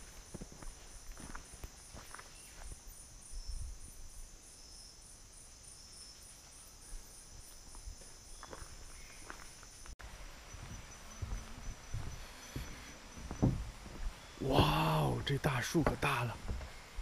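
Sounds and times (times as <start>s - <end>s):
soft footsteps on trail: 0.0s - 3.7s, 6.0s - 17.0s
insects chorus: 0.0s - 17.0s.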